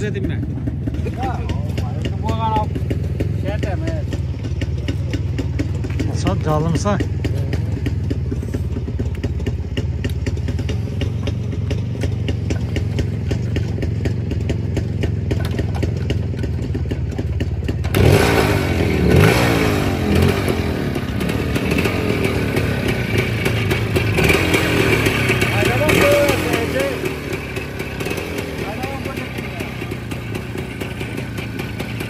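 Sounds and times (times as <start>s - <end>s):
motorcycle engine idling: 0.0s - 32.0s
motorcycle engine revving: 0.0s - 32.0s.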